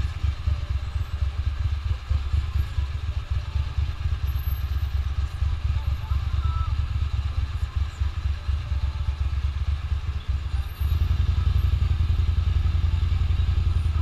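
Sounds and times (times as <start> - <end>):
motorcycle engine throbbing: 0.0 - 14.0.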